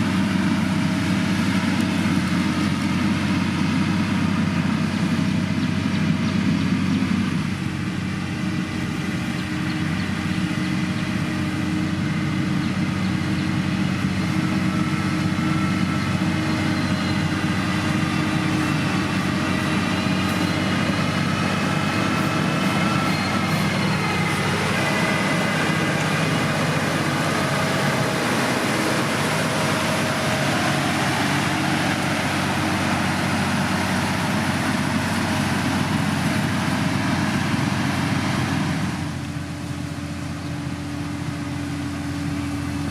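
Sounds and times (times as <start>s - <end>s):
heavy machinery diesel engine: 0.0s - 42.9s.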